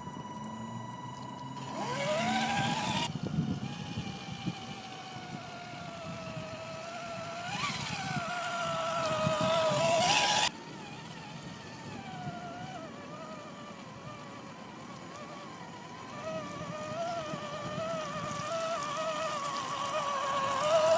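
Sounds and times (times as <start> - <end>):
toy car motor whining: 0.0 - 20.9.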